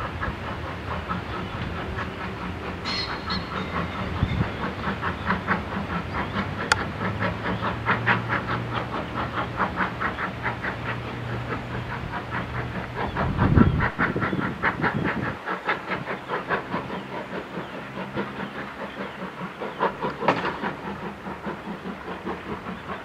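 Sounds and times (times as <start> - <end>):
low train rumble: 0.0 - 23.0
steam train rhythmic chugging: 0.0 - 23.0.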